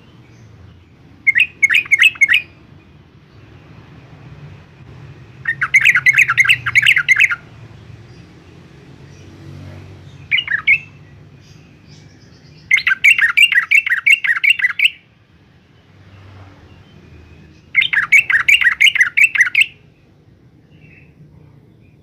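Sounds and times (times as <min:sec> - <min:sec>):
bird chattering song: 0:00.0 - 0:03.9, 0:04.8 - 0:15.2, 0:15.8 - 0:22.0.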